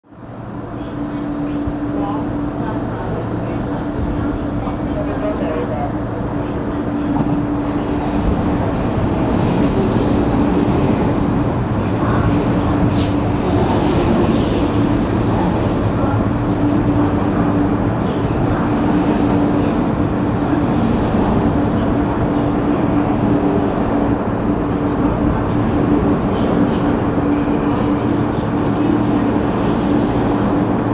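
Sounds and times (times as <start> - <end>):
electric train rumbling: 0.0 - 30.9.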